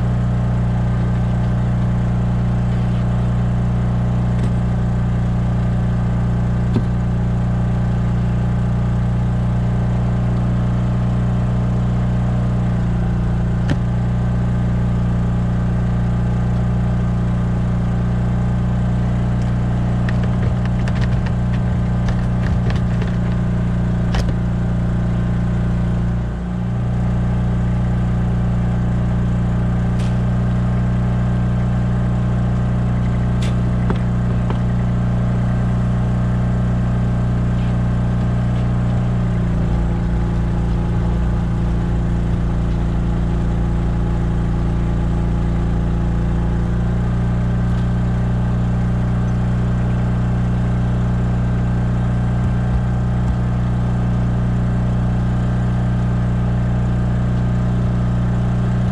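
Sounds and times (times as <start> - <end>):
generator engine humming: 0.0 - 58.9.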